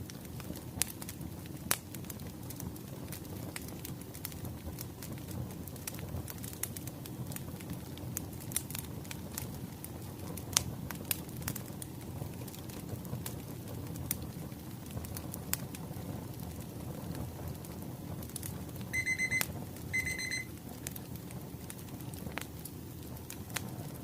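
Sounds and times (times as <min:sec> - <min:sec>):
burning logs popping and snapping: 0:00.0 - 0:19.9, 0:20.5 - 0:24.0
low rumble of flames: 0:00.0 - 0:24.0.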